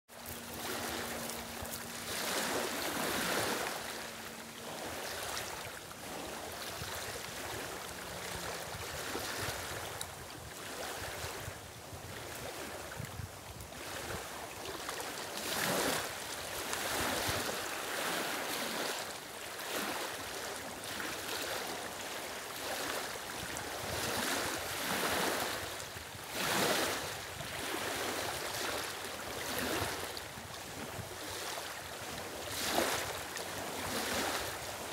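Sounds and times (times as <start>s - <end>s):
waves lapping on stony shore: 0.1s - 34.9s.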